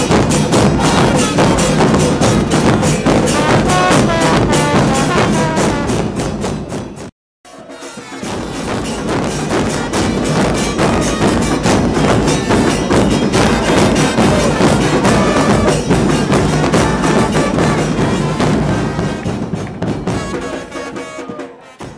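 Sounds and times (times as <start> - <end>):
drum and percussion band: 0.0 - 21.9.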